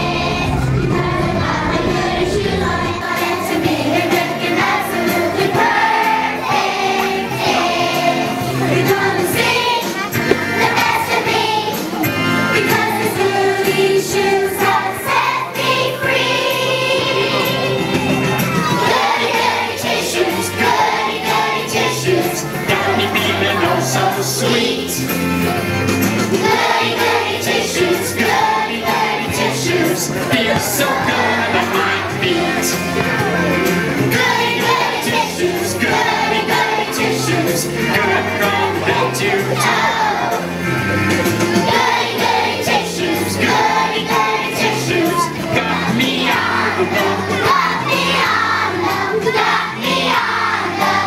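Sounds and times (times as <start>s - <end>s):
children singing: 0.0s - 25.2s, 26.3s - 40.6s, 41.2s - 51.0s
instrumental accompaniment: 0.1s - 51.0s.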